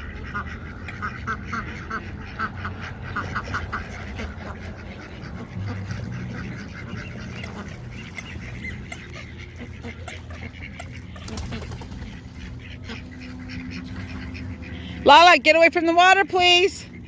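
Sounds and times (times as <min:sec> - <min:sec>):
ducks quacking: 0:00.0 - 0:17.0
steady low rumble: 0:00.0 - 0:17.0.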